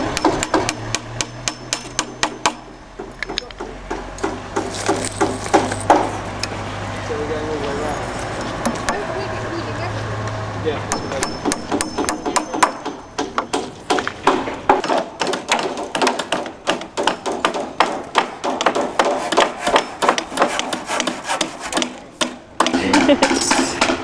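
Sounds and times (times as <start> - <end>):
hammers driving nails into timber: 0.0 - 6.2, 10.9 - 24.0.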